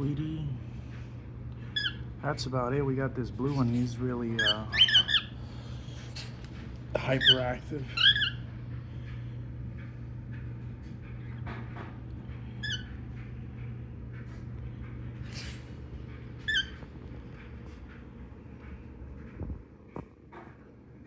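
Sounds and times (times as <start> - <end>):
steady low hum: 0.0 - 21.0
birds chirping: 0.1 - 2.2, 3.4 - 18.6.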